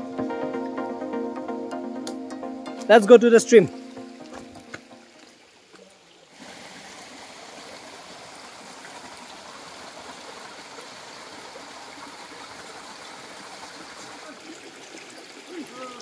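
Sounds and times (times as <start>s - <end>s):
stream running over boulders: 2.7s - 16.0s.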